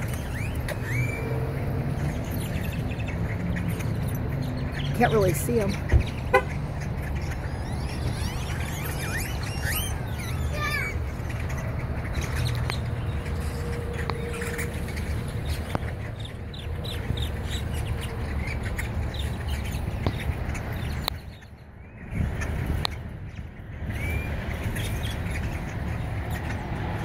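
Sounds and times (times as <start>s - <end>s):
birds calling: 0.0s - 27.0s
low rumble of traffic: 0.0s - 27.0s.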